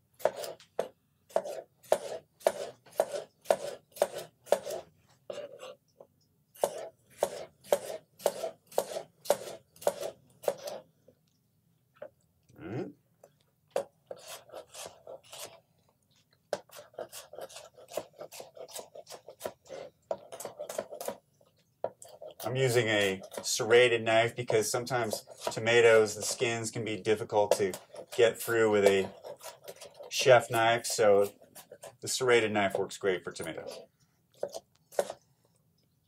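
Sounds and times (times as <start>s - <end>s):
knife slicing tomatoes on board: 0.1s - 5.8s, 6.5s - 10.9s, 13.7s - 15.6s, 16.5s - 21.2s, 21.8s - 35.2s.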